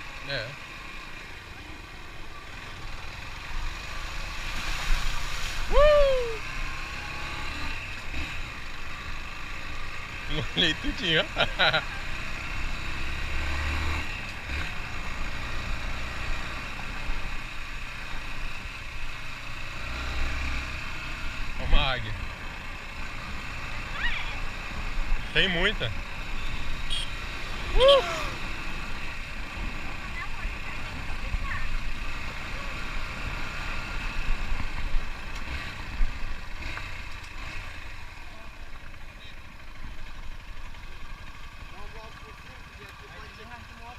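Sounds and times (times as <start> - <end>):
motorcycle engine rumbling: 0.0 - 43.9.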